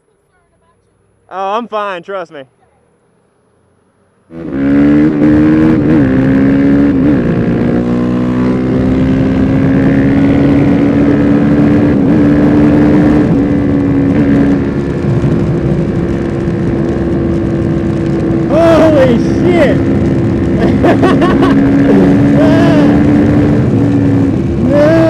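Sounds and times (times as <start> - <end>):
motorcycle engine running: 4.2 - 25.0
wind noise on microphone: 4.6 - 25.0.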